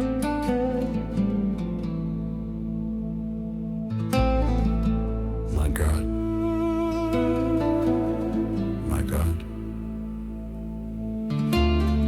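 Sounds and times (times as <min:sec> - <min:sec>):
plucked guitar notes: 0:00.0 - 0:12.0.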